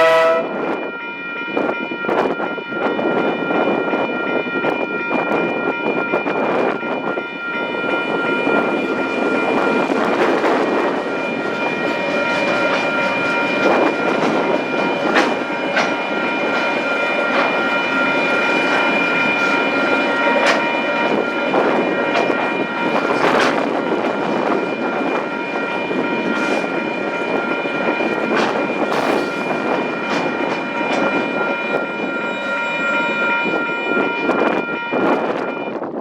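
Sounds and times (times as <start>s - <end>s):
freight train rolling past: 0.0s - 36.0s.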